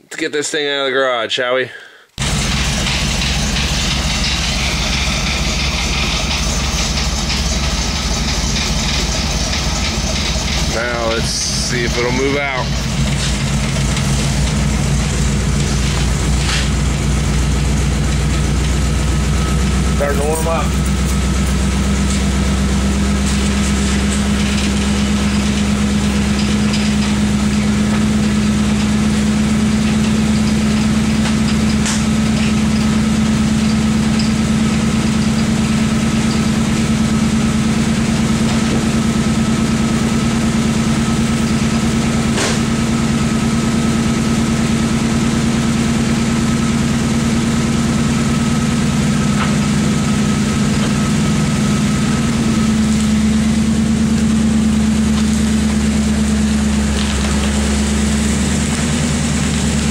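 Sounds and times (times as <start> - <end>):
engine idling: 2.2 - 59.9.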